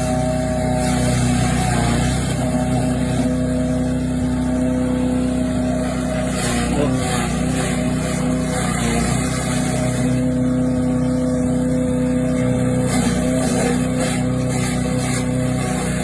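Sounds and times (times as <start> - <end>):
wood chipper engine running: 0.0 - 16.0.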